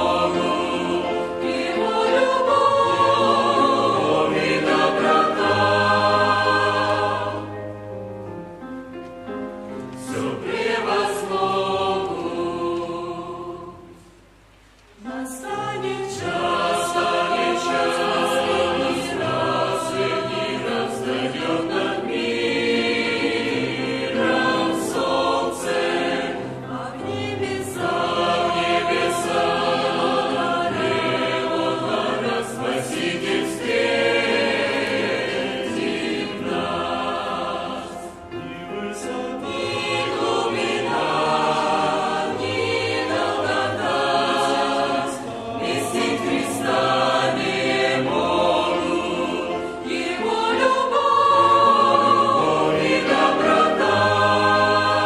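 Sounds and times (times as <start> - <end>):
church choir singing a hymn: 0.0 - 7.8, 9.7 - 14.2, 15.0 - 55.0.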